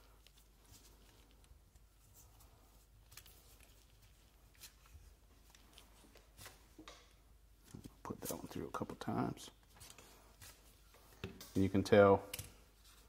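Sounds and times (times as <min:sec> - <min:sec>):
gloved hands ticking and rustling: 0:00.0 - 0:13.0.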